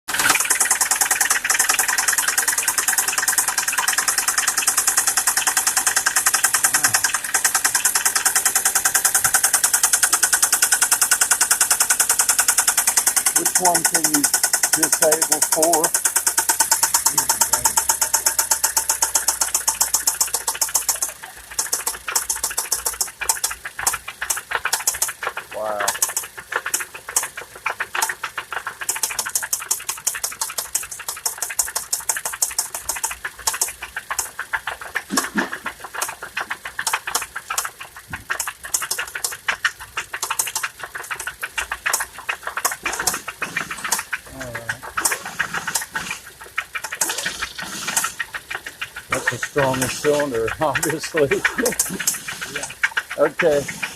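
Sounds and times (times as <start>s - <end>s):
car engine idling with knocking: 0.1s - 53.9s.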